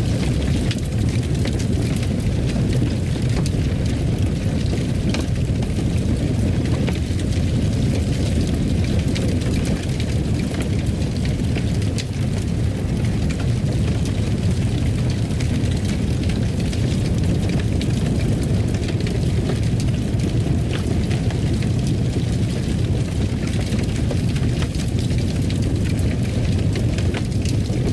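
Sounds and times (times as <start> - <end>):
fire crackling and popping: 0.0 - 27.9
fire roaring: 0.0 - 27.9.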